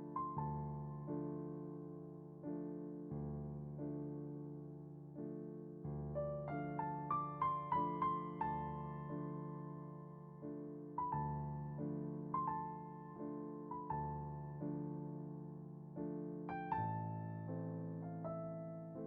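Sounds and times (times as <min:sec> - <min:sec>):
soft solo piano: 0:00.0 - 0:19.0.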